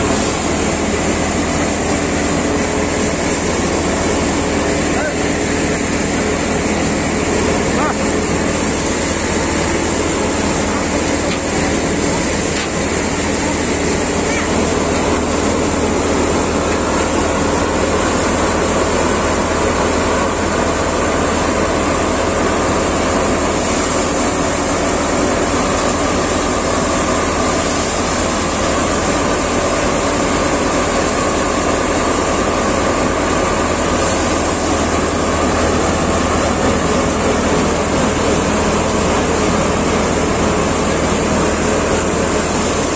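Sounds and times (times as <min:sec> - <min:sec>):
thresher and tractor engine drone: 0:00.0 - 0:42.9.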